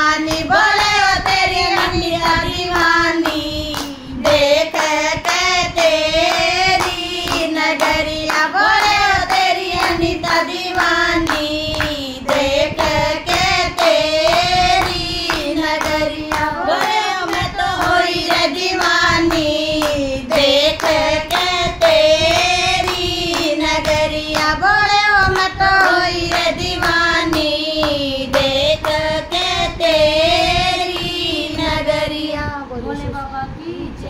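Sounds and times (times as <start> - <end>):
rhythmic hand-clapping: 0.0 - 32.3
women singing together: 0.0 - 33.1.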